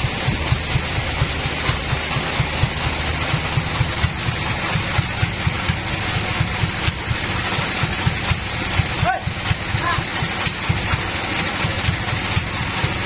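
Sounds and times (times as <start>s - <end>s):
sawmill engine idling: 0.0s - 13.0s.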